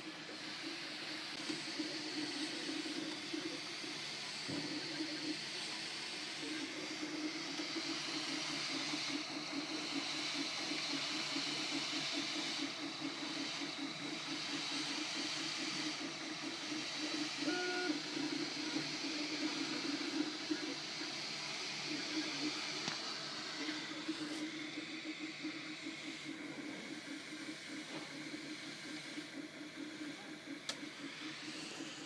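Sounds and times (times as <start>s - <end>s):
cooling fans hissing: 0.0s - 32.0s
stepper motors whirring: 0.0s - 32.0s.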